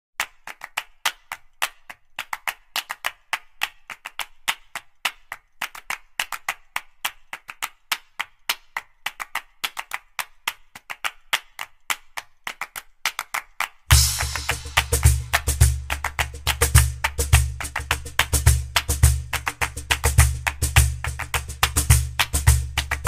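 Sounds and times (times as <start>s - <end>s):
quick hand claps: 0.2s - 23.0s.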